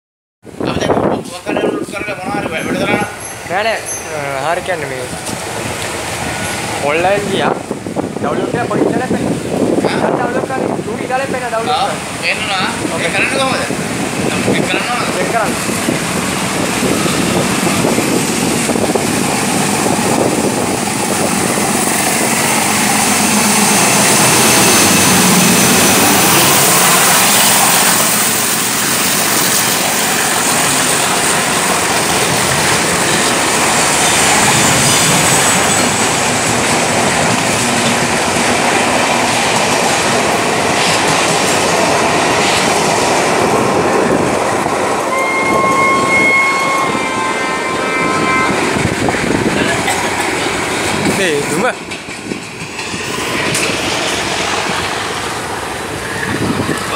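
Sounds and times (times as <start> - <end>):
diesel train engine passing: 0.5 - 56.9
train wheels clattering on track: 1.2 - 45.8, 48.1 - 56.9.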